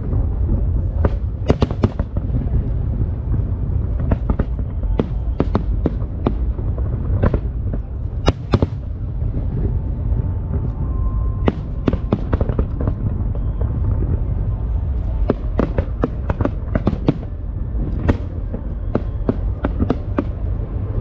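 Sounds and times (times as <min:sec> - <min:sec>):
fireworks crackling pops: 0:00.0 - 0:09.6, 0:11.4 - 0:14.4, 0:15.1 - 0:17.3, 0:17.9 - 0:20.5
fireworks bursts rumbling: 0:00.0 - 0:21.0.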